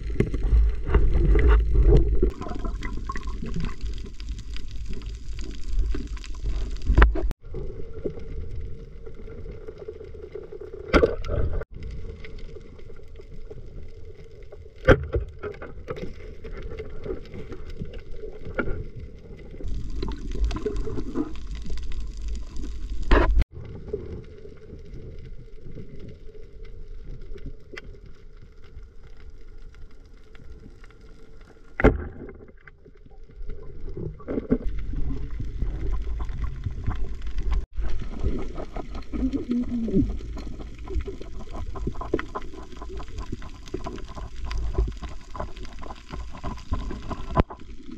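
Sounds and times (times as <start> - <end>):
underwater rumble of moving water: 0.0 - 47.9.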